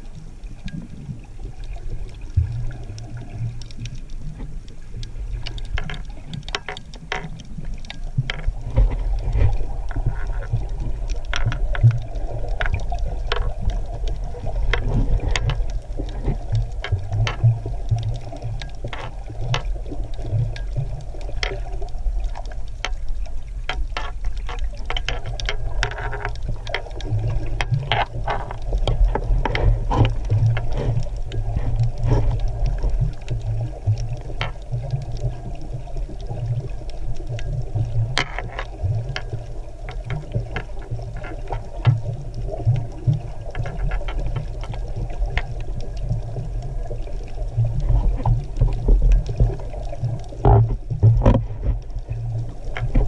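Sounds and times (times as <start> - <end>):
sharp underwater clicks and crackles: 0.0 - 53.0
underwater rumble of moving water: 0.0 - 53.0.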